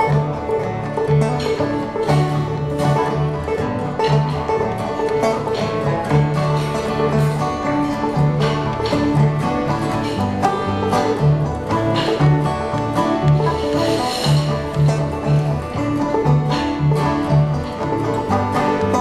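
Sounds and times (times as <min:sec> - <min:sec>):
guitar and bass notes: 0:00.0 - 0:19.0
plucked banjo: 0:00.0 - 0:19.0.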